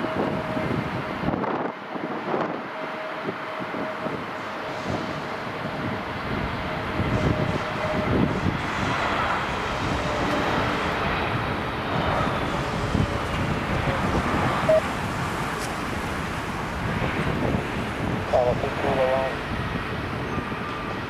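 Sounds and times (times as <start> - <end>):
jet engine noise: 0.0 - 21.0
wind buffeting microphone: 0.0 - 21.0.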